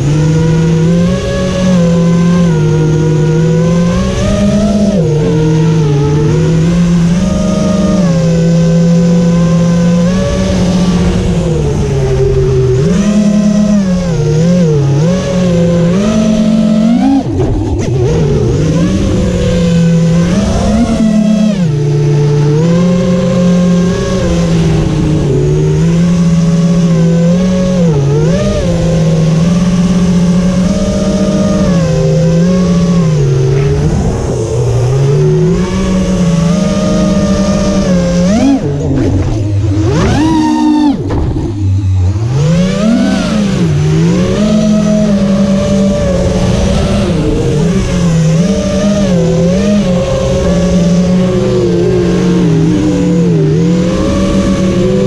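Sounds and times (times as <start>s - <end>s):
drone motors and propellers whining: 0.0s - 55.0s.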